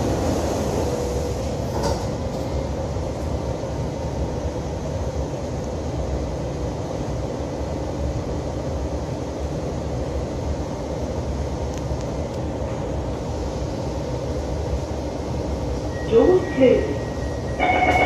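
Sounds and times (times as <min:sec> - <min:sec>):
metro car hum and rumble: 0:00.0 - 0:18.0.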